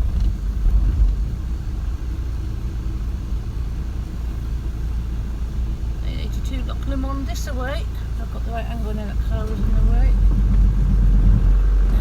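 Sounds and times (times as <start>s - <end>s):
van engine and road noise: 0.0s - 12.0s.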